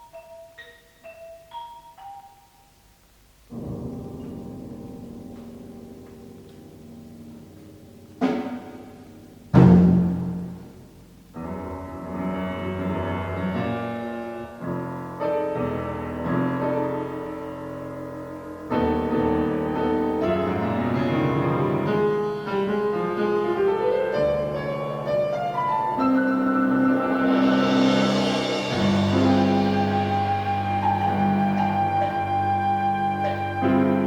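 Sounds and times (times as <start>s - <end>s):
chamber music quintet: 3.6s - 34.0s.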